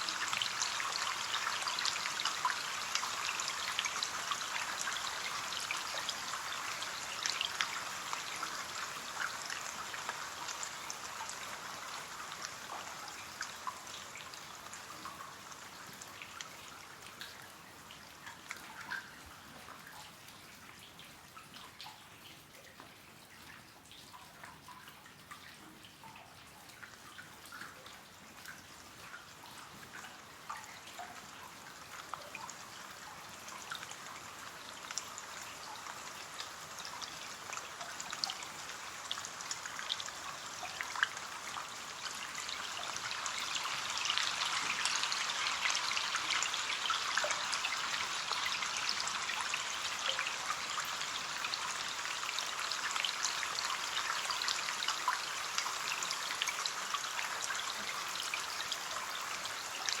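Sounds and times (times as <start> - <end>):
rain hissing on window: 0.0 - 60.0.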